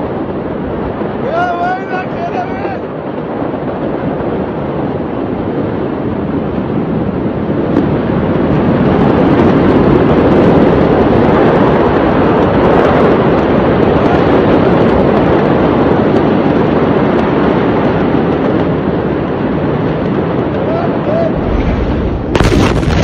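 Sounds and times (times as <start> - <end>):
fire roaring: 0.0 - 23.0.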